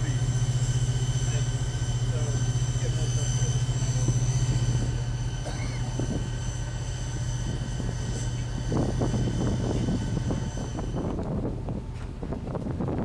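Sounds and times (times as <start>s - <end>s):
helicopter turboshaft engine running: 0.0s - 13.0s.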